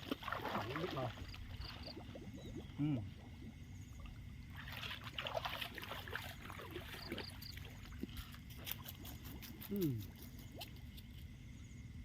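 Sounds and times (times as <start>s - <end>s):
shallow water sloshing: 0.0s - 10.8s.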